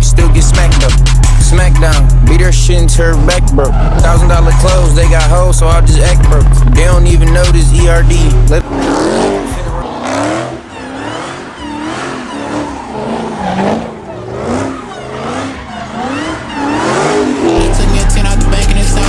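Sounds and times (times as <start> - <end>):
bass-heavy hip-hop beat: 0.0 - 12.0, 15.3 - 19.0
car engine revving: 0.0 - 19.0
car tyres squealing: 0.0 - 19.0.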